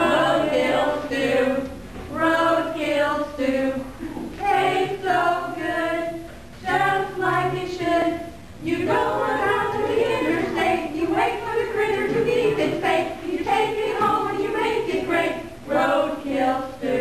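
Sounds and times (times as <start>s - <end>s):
voices singing unaccompanied: 0.0s - 17.0s.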